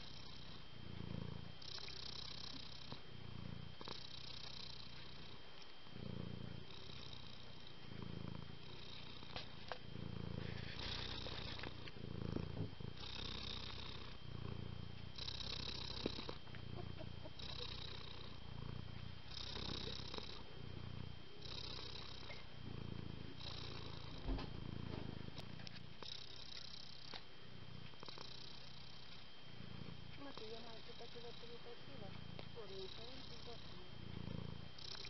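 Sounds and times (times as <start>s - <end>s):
cat purring: 0.0s - 35.0s.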